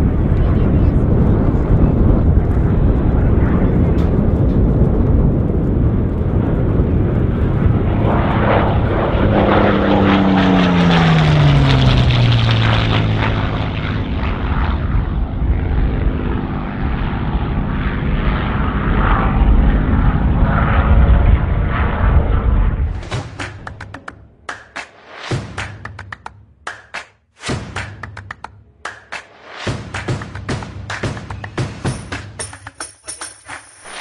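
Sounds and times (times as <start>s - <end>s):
propeller plane engine overhead: 0.0s - 26.7s, 27.6s - 34.0s.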